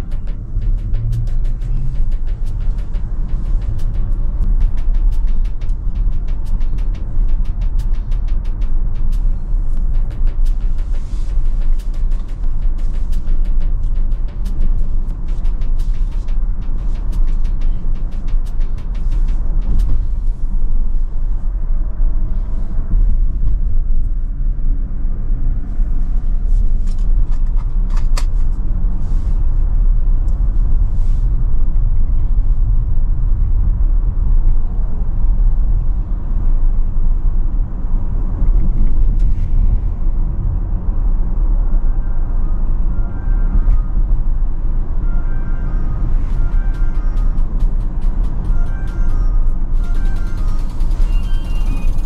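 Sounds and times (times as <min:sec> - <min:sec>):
road and tyre noise in car cabin: 0:00.0 - 0:52.0.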